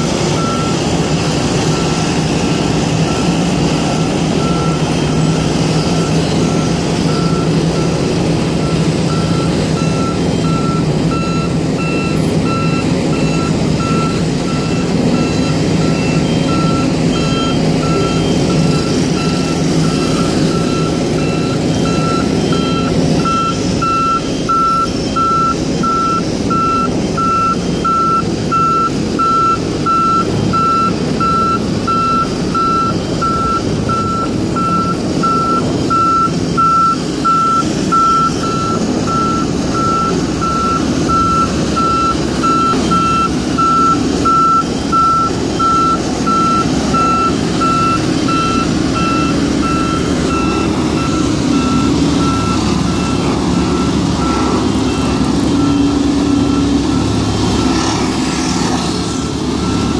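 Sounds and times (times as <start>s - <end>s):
diesel engines running: 0.0s - 59.9s
reversing alarm beeping: 0.0s - 59.9s.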